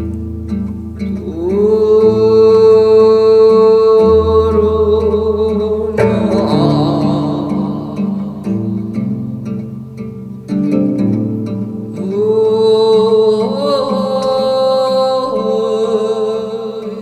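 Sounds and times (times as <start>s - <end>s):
low plucked strings: 0.0s - 17.0s
person singing with heavy vibrato: 1.0s - 10.0s, 11.9s - 17.0s.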